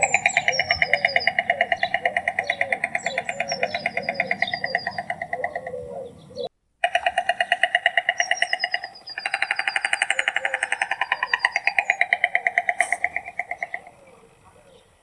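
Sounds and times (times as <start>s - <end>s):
stork clattering bill: 0.0s - 6.2s, 6.8s - 14.0s.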